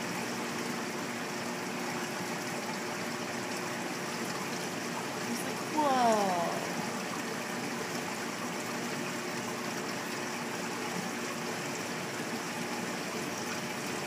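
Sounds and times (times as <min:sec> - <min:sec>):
aquarium water trickling: 0:00.0 - 0:14.0
faint steady hum: 0:00.0 - 0:14.0.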